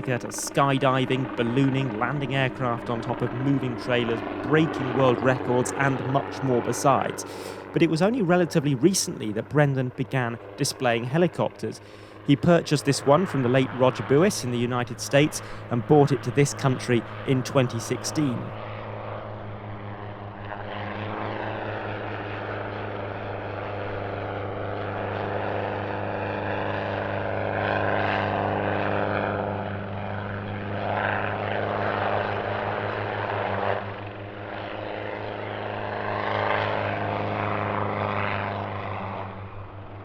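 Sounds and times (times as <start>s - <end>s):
helicopter engine and rotor drone: 0.0s - 40.0s.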